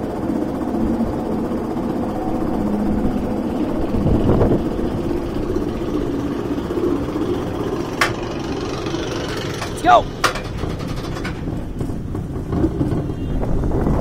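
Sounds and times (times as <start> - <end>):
roller coaster lift chain rumble: 0.0 - 14.0.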